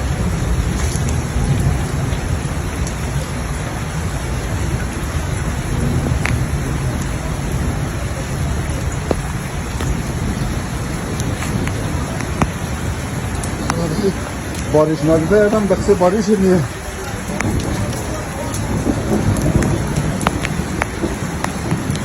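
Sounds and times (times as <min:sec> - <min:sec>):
continuous low rumble: 0:00.0 - 0:22.0
steady rain falling: 0:00.0 - 0:22.0.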